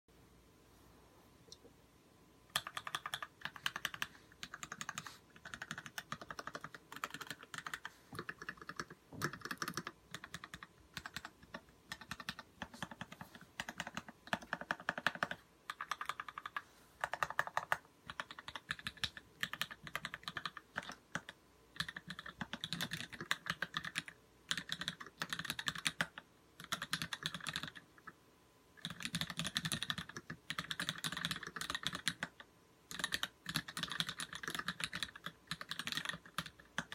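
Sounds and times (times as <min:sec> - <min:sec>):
mechanical keyboard typing: 0:02.5 - 0:28.2, 0:28.8 - 0:36.9.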